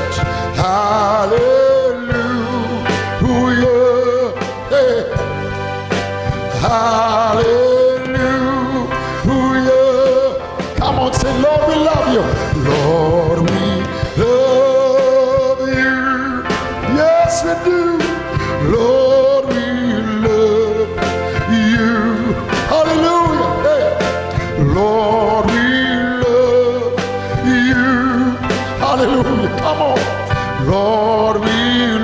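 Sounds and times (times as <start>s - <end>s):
electronic keyboard playing hymn: 0.0s - 32.0s
man singing: 0.0s - 32.0s.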